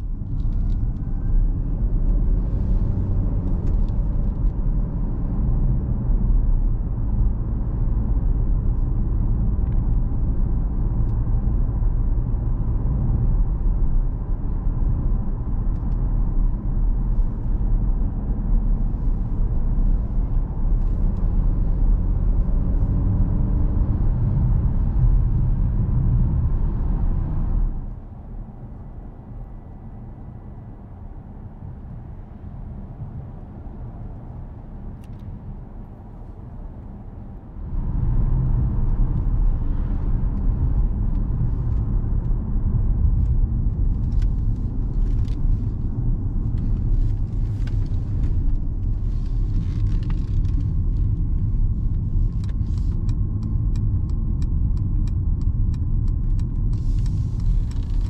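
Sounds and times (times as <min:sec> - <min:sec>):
car road and tyre rumble: 0:00.0 - 0:58.0.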